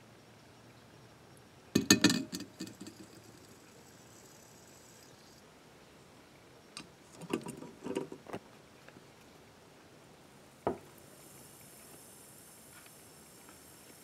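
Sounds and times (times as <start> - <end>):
faint high hiss: 0.0 - 14.0.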